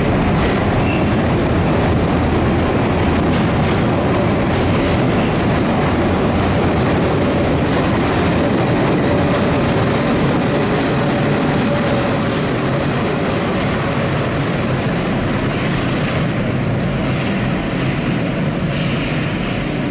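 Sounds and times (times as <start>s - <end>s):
faint train whine: 0.0s - 19.9s
underground train rumbling: 0.0s - 19.9s.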